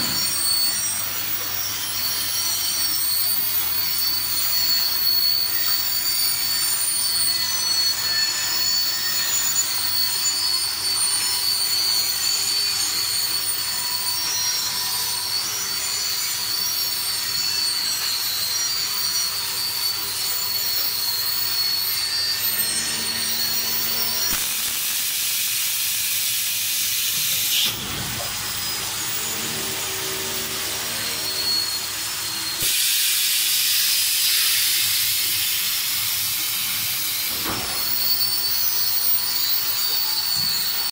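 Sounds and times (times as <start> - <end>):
thin high whine: 0.0 - 40.9.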